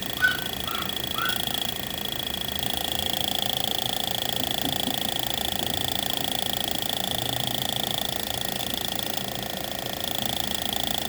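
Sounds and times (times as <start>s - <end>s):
fuel injectors clicking: 0.0s - 11.0s.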